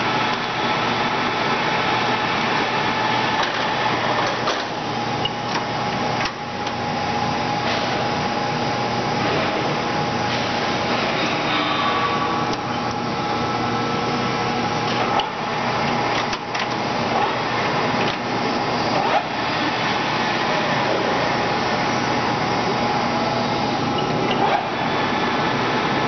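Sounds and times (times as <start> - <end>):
lathe whirring with faint whine: 0.0 - 26.0.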